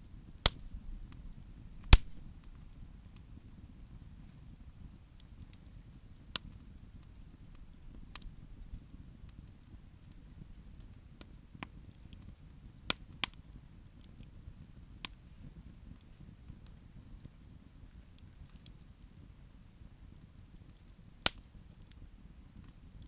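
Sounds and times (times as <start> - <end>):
low steady rumble: 0.0 - 23.0
wood bonfire crackling and popping: 0.0 - 23.0.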